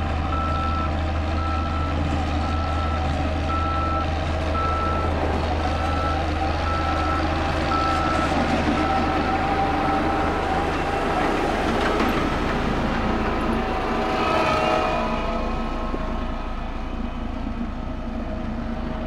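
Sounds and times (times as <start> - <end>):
road roller diesel engine: 0.0 - 19.0.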